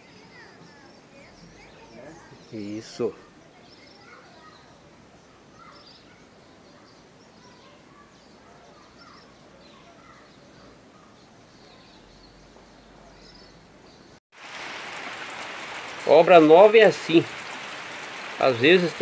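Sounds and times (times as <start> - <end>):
faint birds chirping: 0.0 - 19.0
low steady hiss: 0.0 - 19.0.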